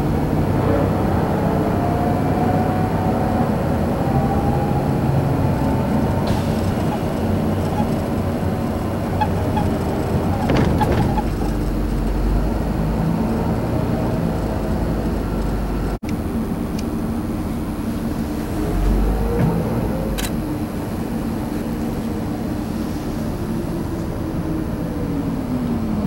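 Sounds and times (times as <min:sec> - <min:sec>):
bus engine: 0:00.0 - 0:26.0
deep engine rumble: 0:00.0 - 0:26.0
road noise: 0:00.0 - 0:26.0.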